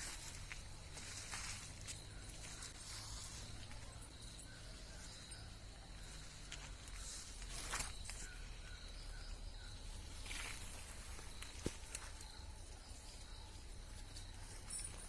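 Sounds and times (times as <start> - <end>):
high insect drone: 0.0 - 15.0
rustling through plants: 0.0 - 15.0.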